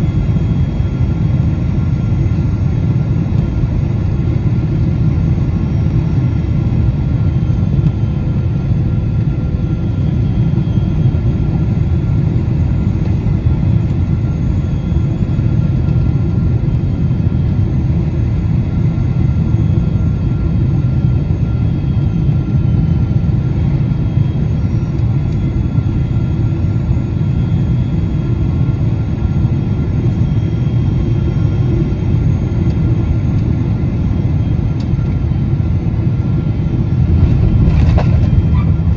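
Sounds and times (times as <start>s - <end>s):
airliner engine rumble: 0.0s - 38.9s
faint whining tones: 0.1s - 38.9s.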